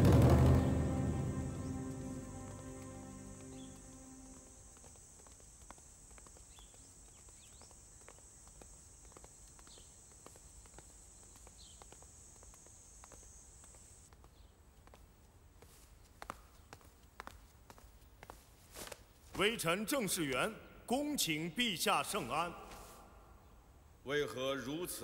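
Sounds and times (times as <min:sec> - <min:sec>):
footsteps walking: 0:00.0 - 0:20.5, 0:22.1 - 0:23.2
high-pitched outdoor hiss: 0:00.0 - 0:25.0.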